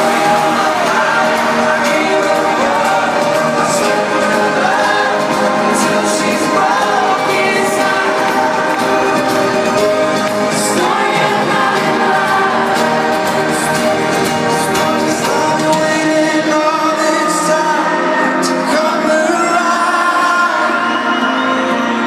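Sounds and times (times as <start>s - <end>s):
live pop band playing: 0.0s - 22.0s
person singing: 0.0s - 22.0s.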